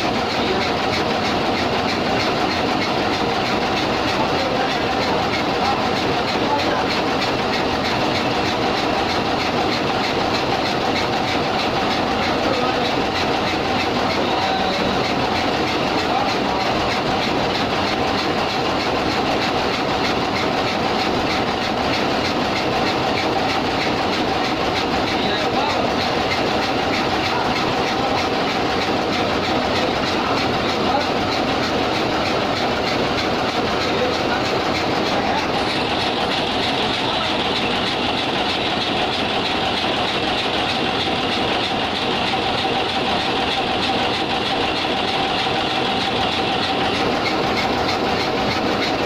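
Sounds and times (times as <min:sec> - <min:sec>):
diesel engine clattering: 0:00.0 - 0:49.0.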